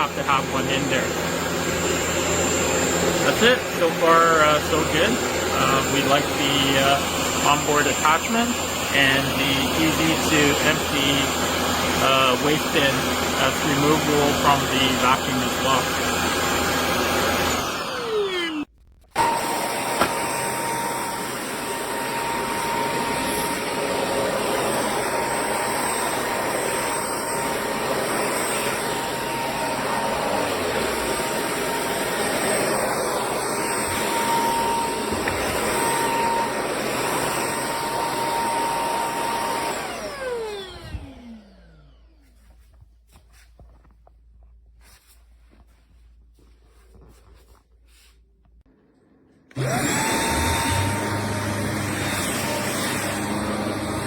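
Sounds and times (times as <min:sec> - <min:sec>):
stick vacuum running: 0:00.0 - 0:42.1, 0:49.4 - 0:54.0.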